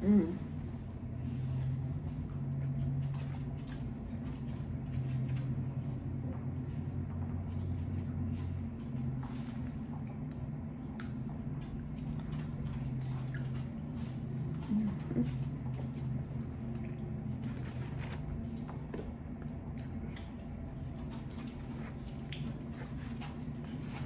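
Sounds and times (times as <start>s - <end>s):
steady low hum: 0.0s - 24.0s
chewing and mouth sounds: 0.6s - 24.0s.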